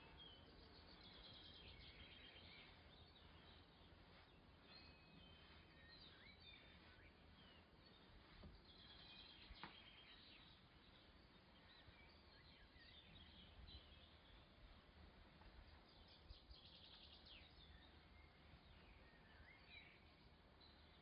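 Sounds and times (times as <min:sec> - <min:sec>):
small bird chirps: 0:00.0 - 0:14.6, 0:15.5 - 0:21.0
faint background hiss: 0:00.0 - 0:21.0.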